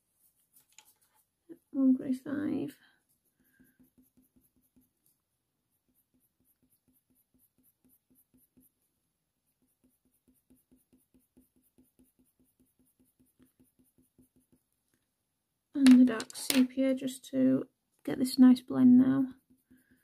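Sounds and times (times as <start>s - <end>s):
pencil strokes on paper: 0.0s - 14.9s, 18.3s - 20.0s.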